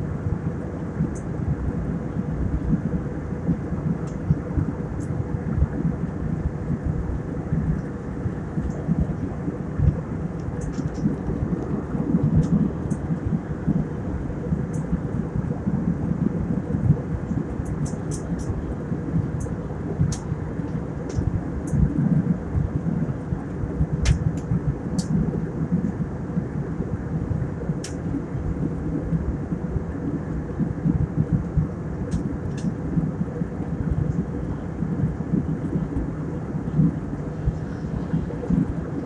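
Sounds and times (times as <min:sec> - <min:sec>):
faint steady hum: 0:00.0 - 0:39.0
jet engines and airflow rumble: 0:00.0 - 0:39.0.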